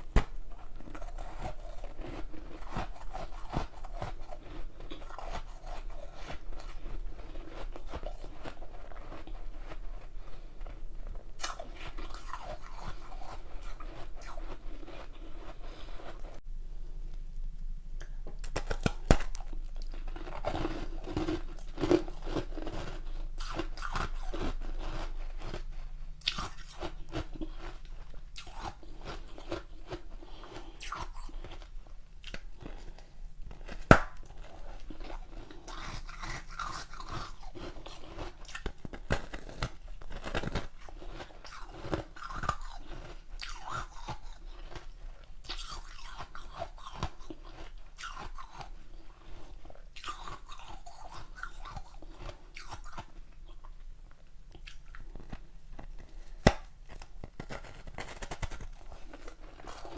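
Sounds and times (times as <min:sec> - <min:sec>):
person chewing ice: 0:00.0 - 0:16.4, 0:18.0 - 0:59.9.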